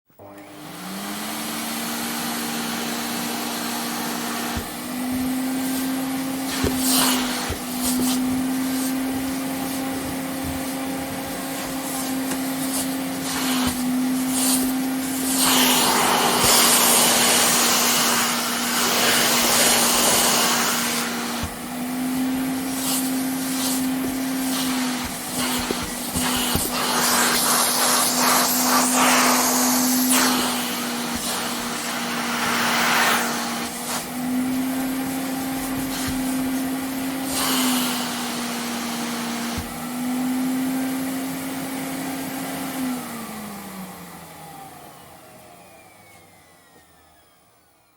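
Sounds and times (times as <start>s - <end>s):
vacuum cleaner motor whining: 0.2s - 47.9s.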